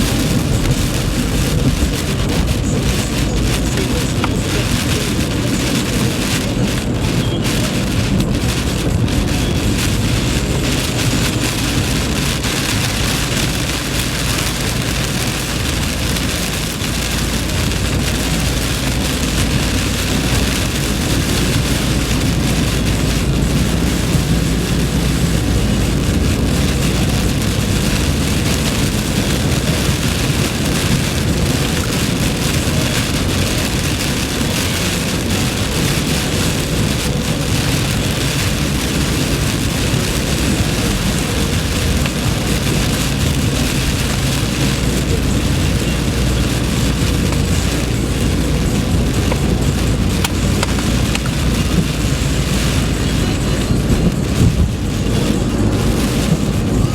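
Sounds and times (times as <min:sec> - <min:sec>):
car driving rumble: 0:00.0 - 0:56.9
heavy rain pouring: 0:00.0 - 0:56.9.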